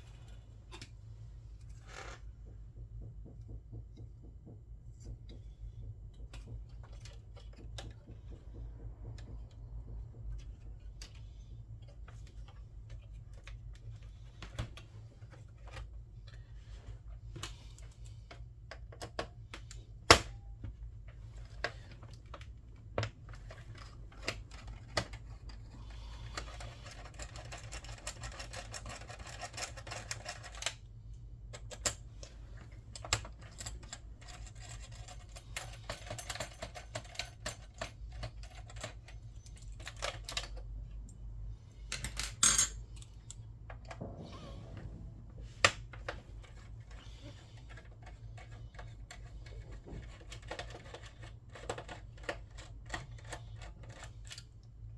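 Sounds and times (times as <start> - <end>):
low electrical hum: 0.0 - 54.9.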